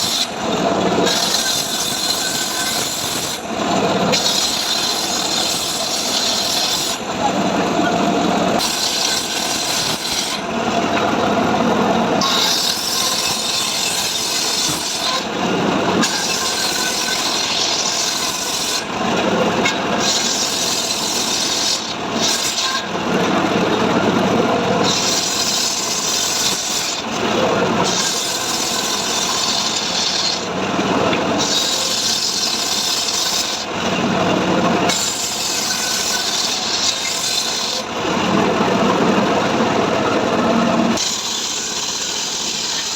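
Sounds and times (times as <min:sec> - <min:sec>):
saw cutting wood: 0:00.0 - 0:42.9.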